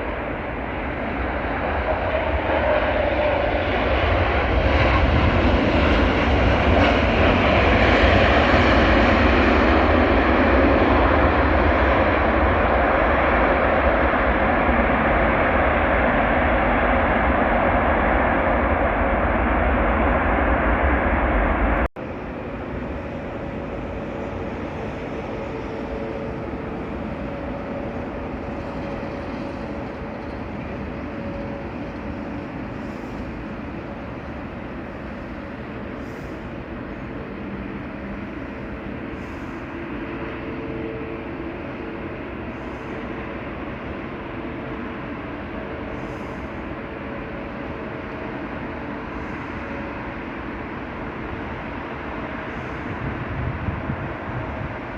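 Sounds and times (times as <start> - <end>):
jet airliner engine noise: 0.0 - 54.9.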